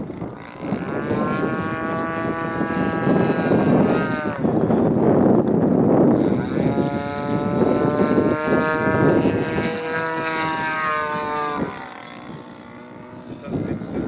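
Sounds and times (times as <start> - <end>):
model plane engine droning: 0.0 - 14.0.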